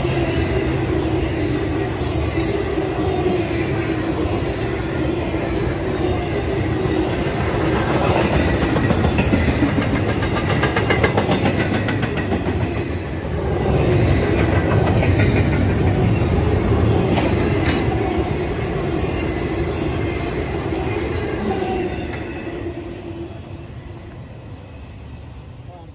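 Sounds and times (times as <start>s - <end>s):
train wheels rumbling and clicking: 0.0s - 22.6s.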